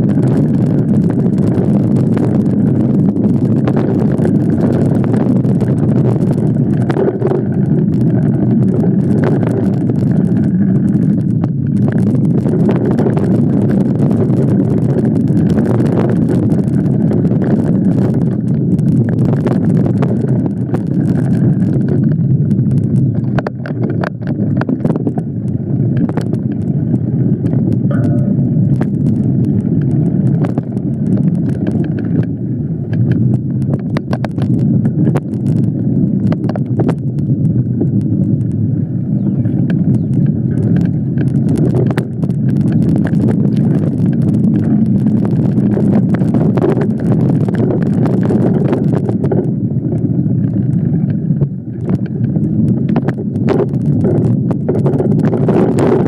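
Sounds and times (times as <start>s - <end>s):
bike clicks and rattles: 0.0s - 56.0s
wind rushing over microphone: 0.0s - 56.0s.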